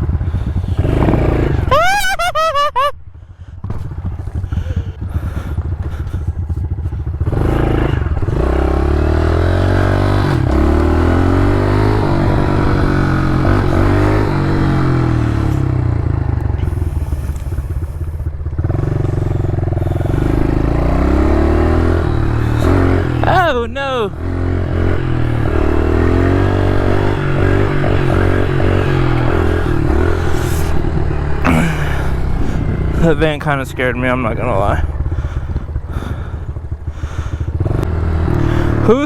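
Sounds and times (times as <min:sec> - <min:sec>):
small motorcycle engine accelerating: 0:00.0 - 0:02.2, 0:03.6 - 0:39.0.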